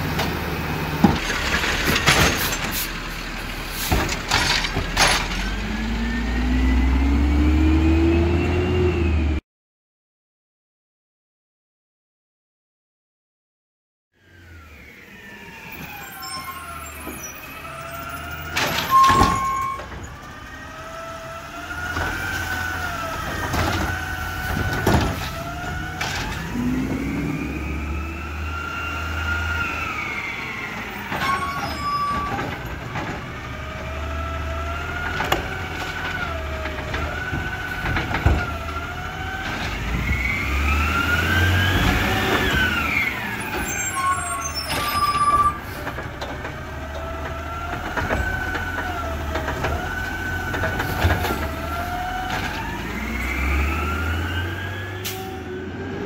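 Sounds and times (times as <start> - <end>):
truck engine rumble: 0.0 - 9.4, 14.2 - 56.0.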